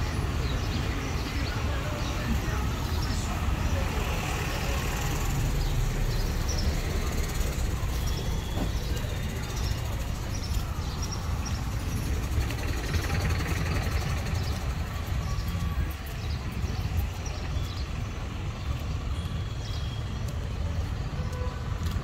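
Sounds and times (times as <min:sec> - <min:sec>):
street noise: 0:00.0 - 0:22.0
vehicle engines rumbling: 0:00.0 - 0:22.0.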